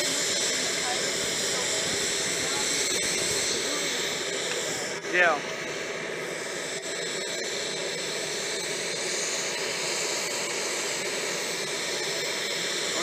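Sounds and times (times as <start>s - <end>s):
jet engines hissing and whining: 0.0s - 13.0s.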